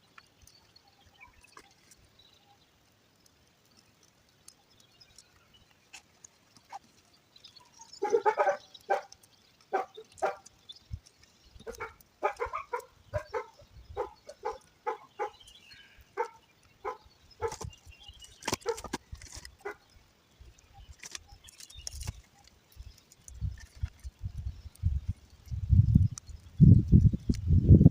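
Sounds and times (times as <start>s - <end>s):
campfire cracking and popping: 0.0s - 27.7s.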